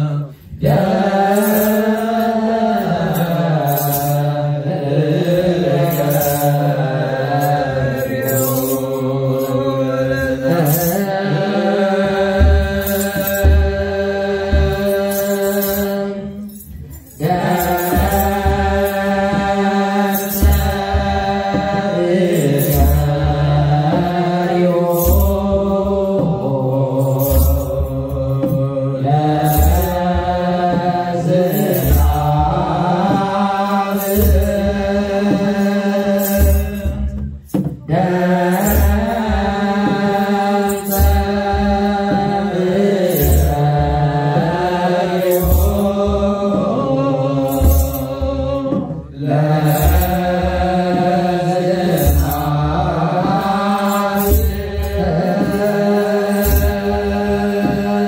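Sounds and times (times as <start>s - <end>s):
voices chanting long notes: 0.0s - 37.2s, 37.9s - 58.0s
slow drum beat: 0.0s - 58.0s
high rattle: 0.3s - 58.0s.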